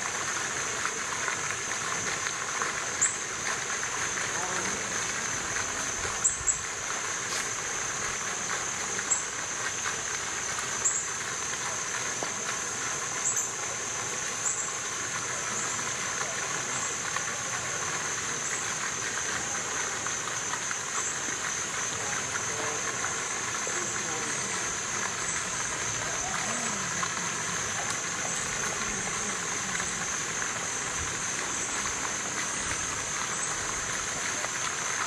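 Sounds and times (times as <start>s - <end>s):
high-pitched hiss: 0.0s - 35.0s
stream running: 0.0s - 35.0s.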